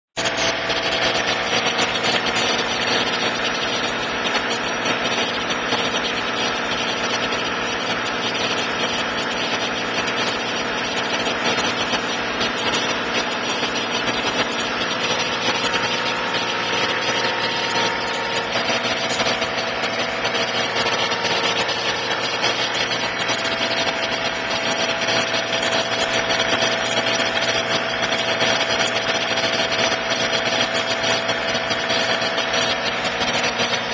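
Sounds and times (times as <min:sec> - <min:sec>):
tractor engine droning: 0:00.2 - 0:33.9.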